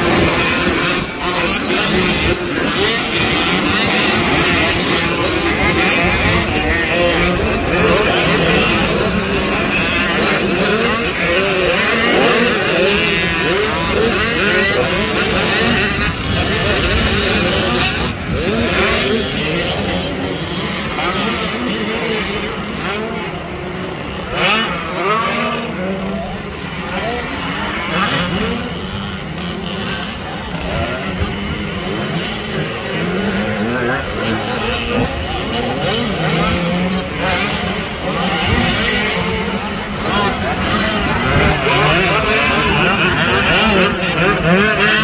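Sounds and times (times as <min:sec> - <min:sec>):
motocross bikes revving: 0:00.0 - 0:45.0.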